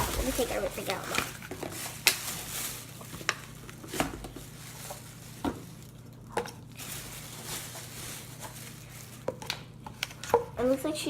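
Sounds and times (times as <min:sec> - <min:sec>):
packaging rustling: 0:00.0 - 0:10.3.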